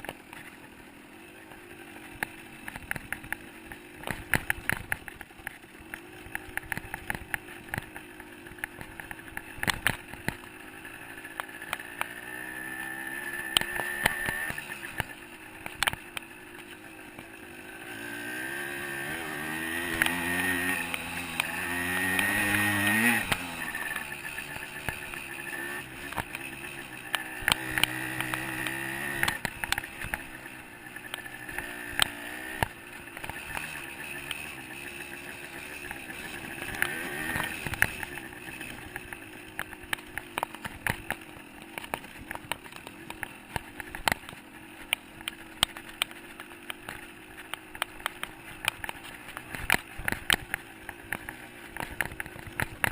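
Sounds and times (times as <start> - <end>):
dirt bike engine revving: 0.0 - 52.9
sharp clicks and knocks: 2.1 - 12.2, 13.4 - 17.3, 19.4 - 52.9.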